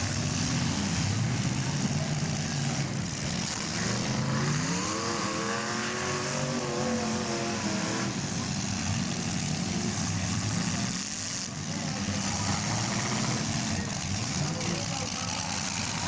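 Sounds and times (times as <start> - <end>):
engine revving up: 0.0 - 11.0, 11.6 - 16.0
car engines running: 0.0 - 16.0.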